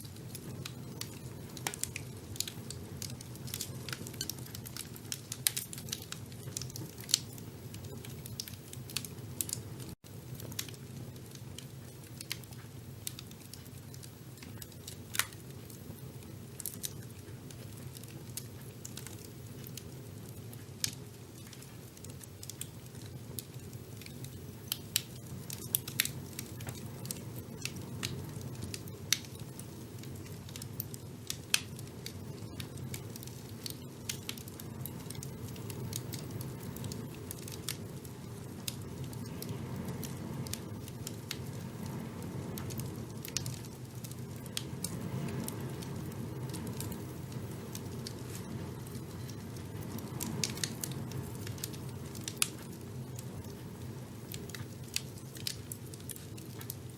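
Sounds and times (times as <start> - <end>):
fire rumbling: 0.0 - 56.9
logs crackling and popping: 0.0 - 56.9.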